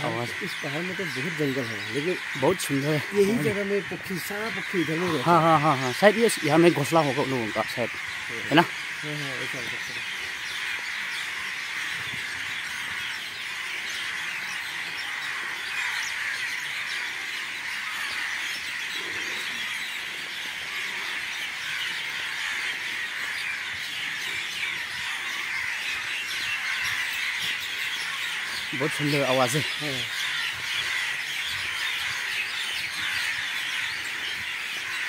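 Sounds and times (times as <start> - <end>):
flock of birds chirping: 0.0 - 35.0.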